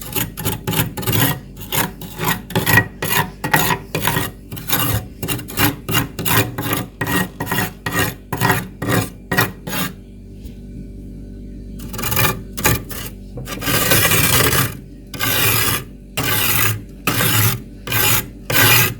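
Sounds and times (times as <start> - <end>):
frost being scraped: 0.0 - 10.0, 11.8 - 18.9.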